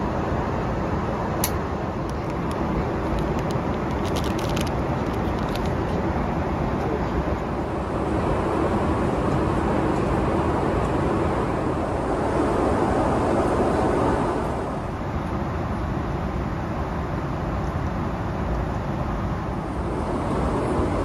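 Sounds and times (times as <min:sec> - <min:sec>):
airliner cabin drone: 0:00.0 - 0:21.0.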